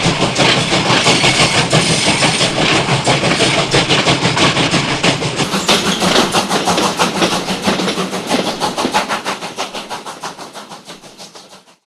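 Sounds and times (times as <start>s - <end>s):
steam locomotive chuffing: 0.0s - 11.8s.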